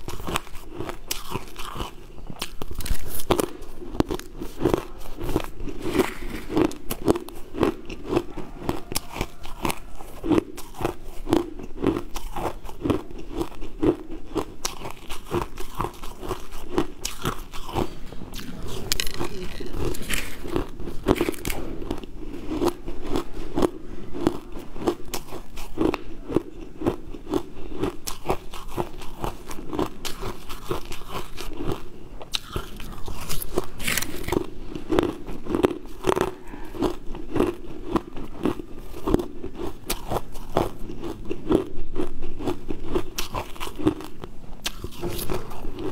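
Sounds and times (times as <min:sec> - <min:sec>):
chewing crunchy sweet: 0:00.0 - 0:45.9.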